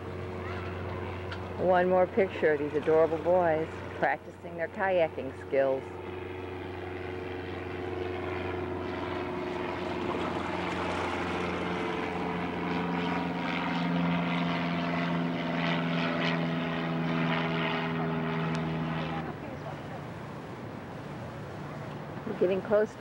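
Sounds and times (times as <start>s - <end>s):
propeller aircraft engines droning: 0.0s - 23.0s.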